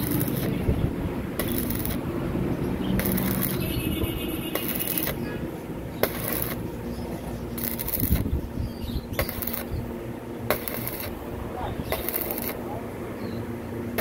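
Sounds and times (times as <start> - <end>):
welding arc crackling: 0.0 - 12.9
steady low hum: 0.0 - 14.0.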